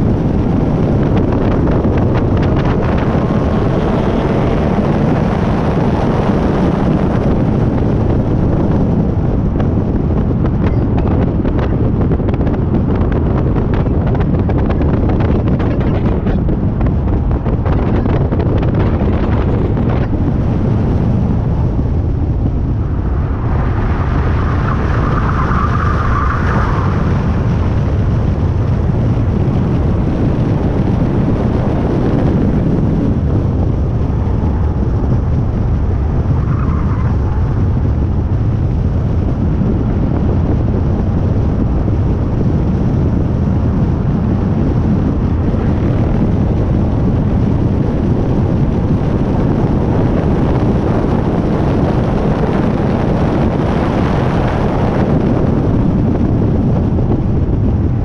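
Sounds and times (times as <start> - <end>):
tyre and road rumble: 0.0 - 58.0
wind buffeting microphone: 0.0 - 58.0.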